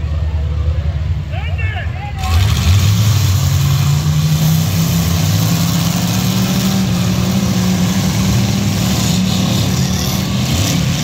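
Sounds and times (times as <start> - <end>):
car engines revving: 2.1 - 11.0.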